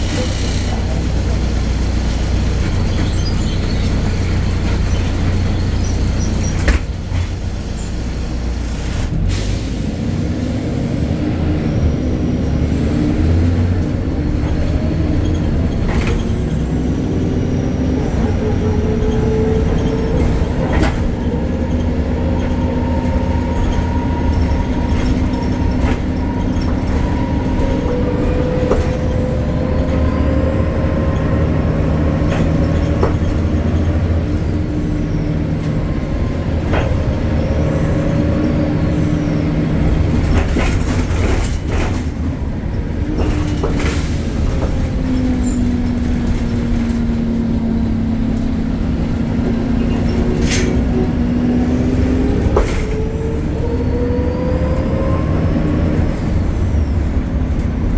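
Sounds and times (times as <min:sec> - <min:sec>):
bus diesel engine drone: 0:00.0 - 0:57.9.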